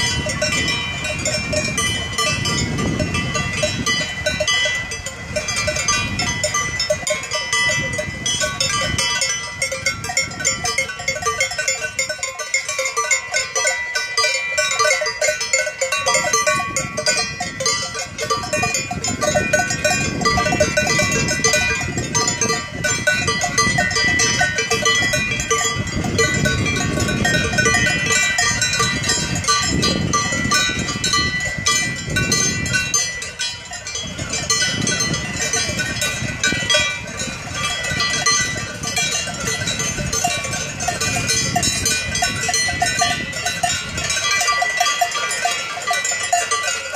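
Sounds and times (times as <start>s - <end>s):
cowbells clanging: 0.0s - 46.9s.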